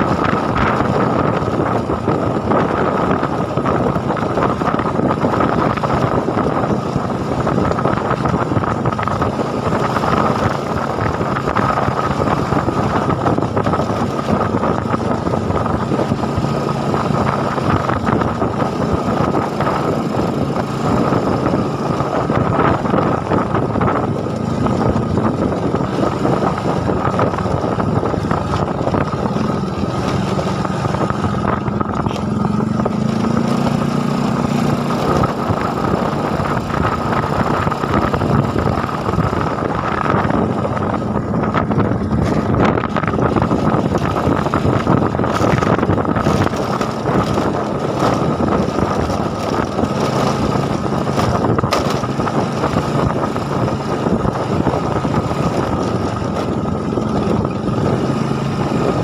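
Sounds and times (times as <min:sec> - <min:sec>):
small motorcycle engine running: 0:00.0 - 0:59.0
wind rumble on microphone: 0:00.0 - 0:59.0.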